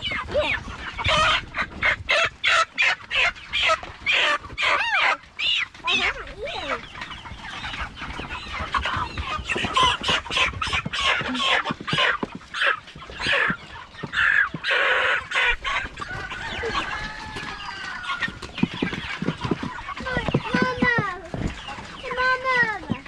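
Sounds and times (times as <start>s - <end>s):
chickens clucking and squawking: 0.0s - 23.0s.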